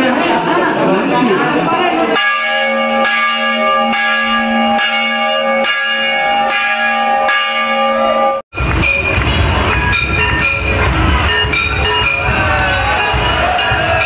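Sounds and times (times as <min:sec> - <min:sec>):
metal temple bell ringing: 0:00.4 - 0:14.0.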